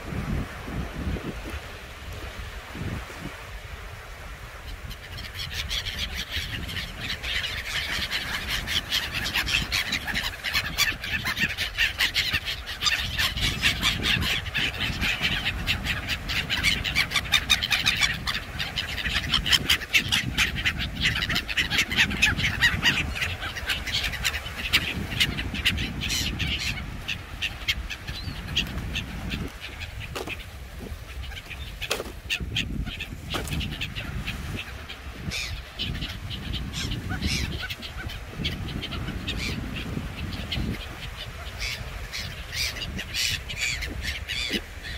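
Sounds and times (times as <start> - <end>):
surf and wind rumble: 0.0 - 44.9
harsh gull calls: 5.2 - 44.9.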